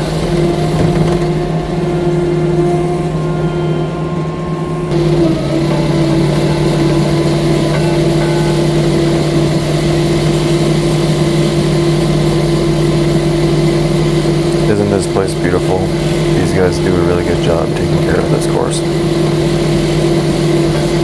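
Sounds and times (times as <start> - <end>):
track loader engine running: 0.0 - 21.0.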